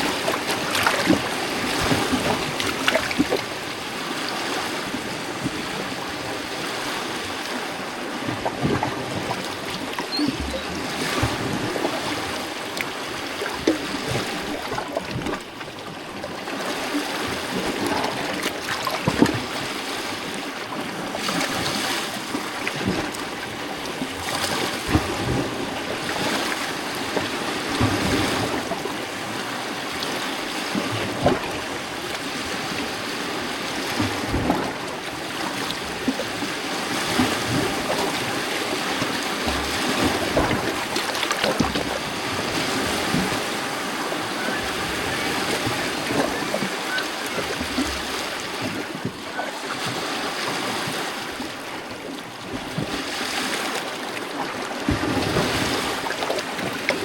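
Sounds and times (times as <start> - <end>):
lake waves lapping on rocks: 0.0 - 57.0.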